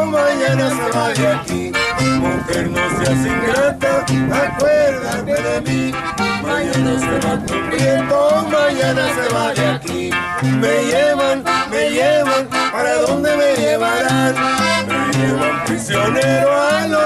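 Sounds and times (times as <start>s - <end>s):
bass line: 0.0s - 17.0s
button accordion: 0.0s - 17.0s
men singing together: 0.0s - 17.0s
twelve-string guitar: 0.0s - 17.0s.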